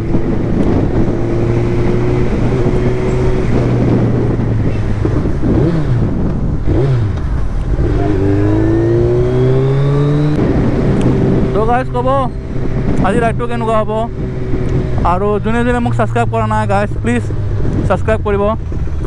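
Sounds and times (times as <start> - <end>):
motorcycle engine with loud exhaust: 0.0 - 19.0
wind noise: 0.0 - 19.0.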